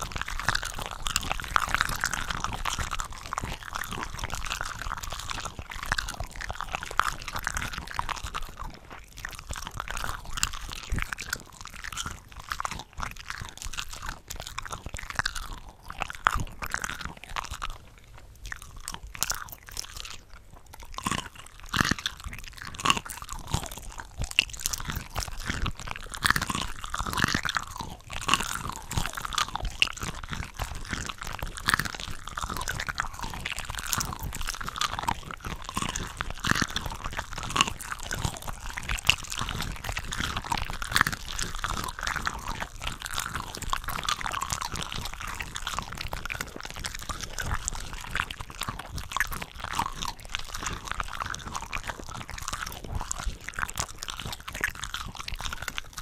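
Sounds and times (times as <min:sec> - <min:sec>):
chewing and biting shrimp: 0:00.0 - 0:56.0.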